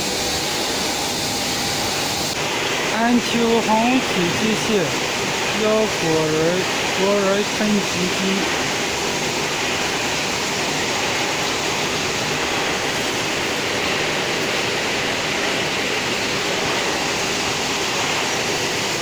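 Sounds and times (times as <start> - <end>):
processing machinery rushing: 0.0 - 19.0.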